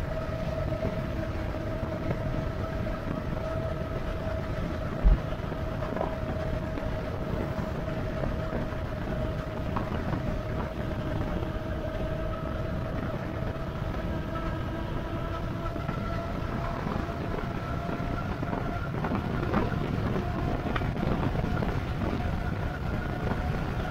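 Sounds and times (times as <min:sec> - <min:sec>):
electric drive whine: 0:00.0 - 0:23.9
wind and tyre noise: 0:00.0 - 0:23.9.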